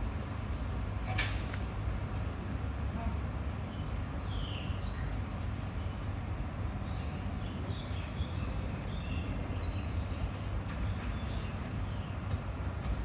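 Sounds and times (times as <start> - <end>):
electric rail car rumbling: 0.0 - 13.0.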